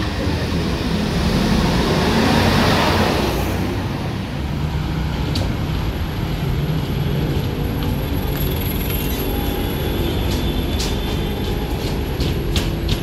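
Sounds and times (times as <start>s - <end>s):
bus engine humming: 0.0s - 13.0s
road traffic hum: 0.0s - 13.0s
rush of passing noise: 0.0s - 13.0s.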